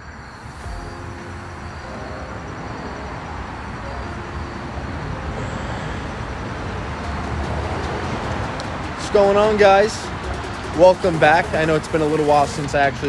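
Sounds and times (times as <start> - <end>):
motor vehicle rumble: 0.0 - 13.0
rushing noise: 0.0 - 13.0.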